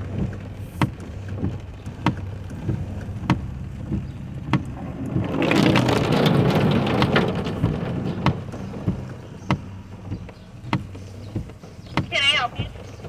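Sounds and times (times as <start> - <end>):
car engine idling: 0.0 - 13.0
heavy rain on a car: 0.0 - 13.0.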